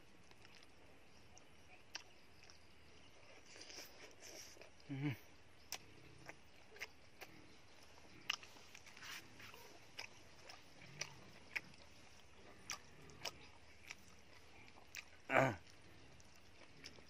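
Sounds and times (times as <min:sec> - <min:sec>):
person chewing food: 0:00.2 - 0:17.0.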